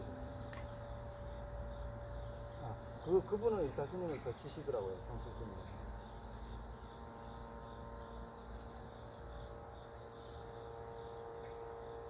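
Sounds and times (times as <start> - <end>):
faint steady hum: 0.0 - 12.0
insects chirring: 0.0 - 12.0.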